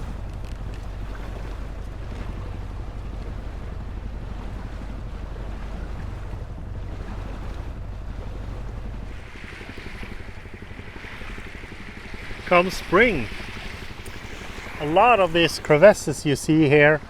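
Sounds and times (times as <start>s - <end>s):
water rushing around boat: 0.0s - 17.0s
wind on microphone: 0.0s - 17.0s.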